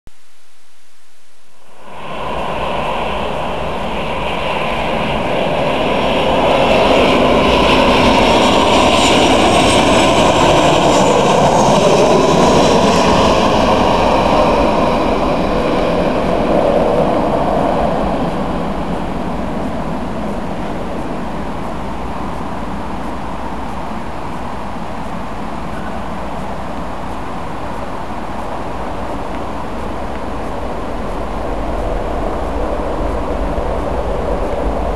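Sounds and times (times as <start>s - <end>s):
jet airliner landing: 1.6s - 34.9s.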